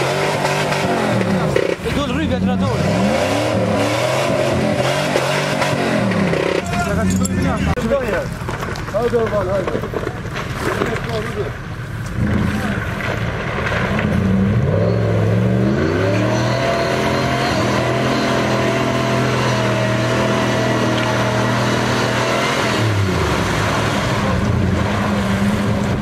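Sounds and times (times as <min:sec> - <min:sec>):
off-road vehicle engine revving: 0:00.0 - 0:07.8, 0:12.0 - 0:26.0.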